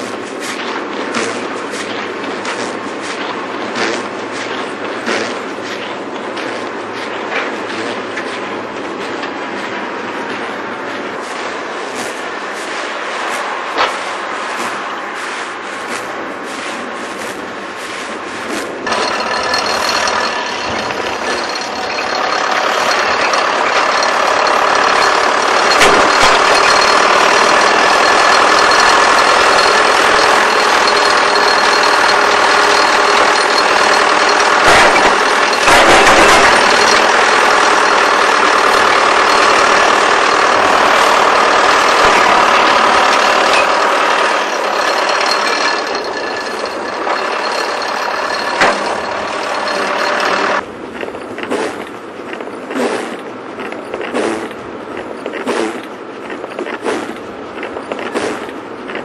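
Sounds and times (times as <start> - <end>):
large engine running: 0.0 - 59.0.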